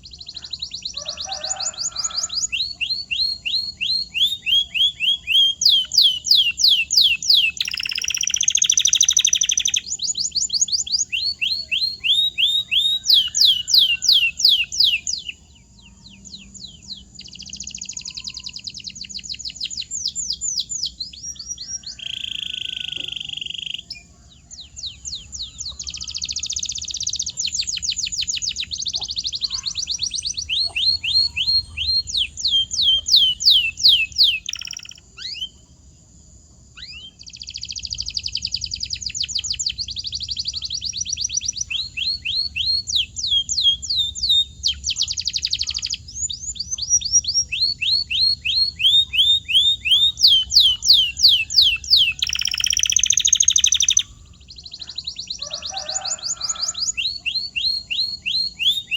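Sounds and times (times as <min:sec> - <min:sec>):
canary singing: 0:00.0 - 0:35.9, 0:36.6 - 0:58.9.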